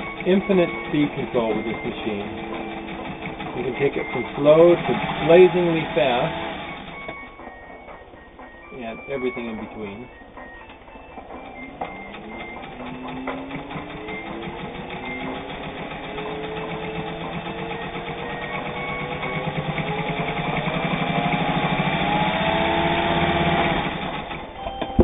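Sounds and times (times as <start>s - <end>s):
sewing machine stitching: 0.0s - 7.2s, 11.5s - 24.5s.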